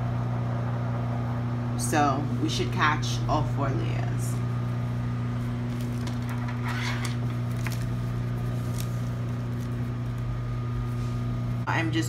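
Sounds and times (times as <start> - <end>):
low electric hum: 0.0 - 12.0.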